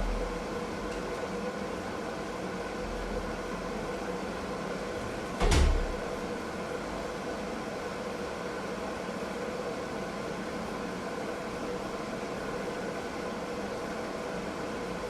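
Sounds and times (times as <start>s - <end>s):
washing machine hum: 0.0s - 15.0s.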